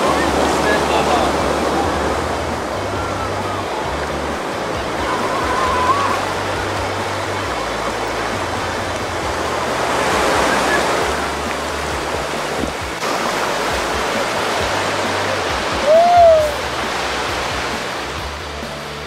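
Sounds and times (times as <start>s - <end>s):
background music with bass: 0.0s - 19.0s
surf washing in shallow water: 0.0s - 19.0s.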